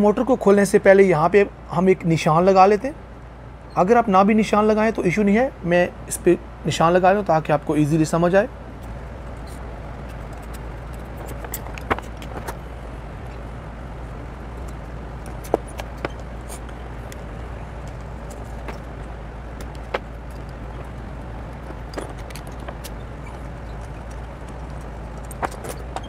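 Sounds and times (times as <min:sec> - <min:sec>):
background hiss and hum: 0:00.0 - 0:26.0.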